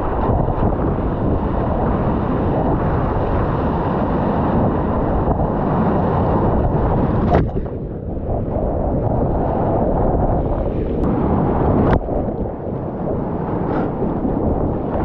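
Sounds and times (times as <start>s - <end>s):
surf and rushing water: 0.0s - 15.0s
wind buffeting microphone: 0.0s - 15.0s.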